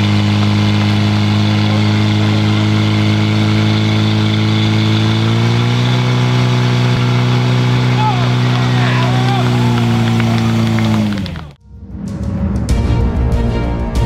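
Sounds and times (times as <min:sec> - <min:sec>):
fire pump engine running: 0:00.0 - 0:11.6.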